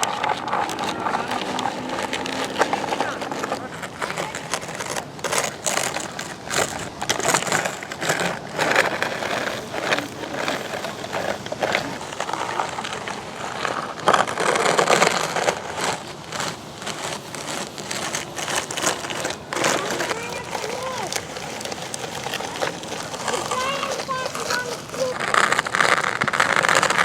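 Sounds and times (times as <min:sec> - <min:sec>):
sand scraping and crunching: 0:00.0 - 0:27.0.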